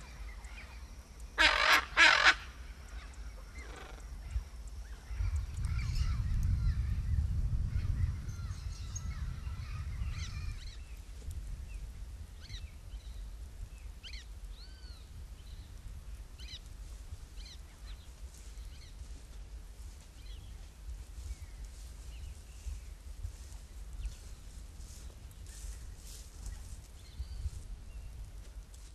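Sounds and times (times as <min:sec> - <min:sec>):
steady low rumble: 0:00.0 - 0:28.9.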